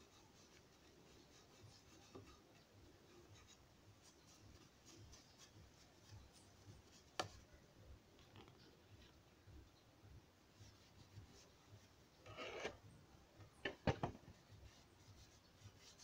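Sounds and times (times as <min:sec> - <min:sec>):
paintbrush strokes on wood: 0:00.0 - 0:07.8, 0:10.4 - 0:16.0.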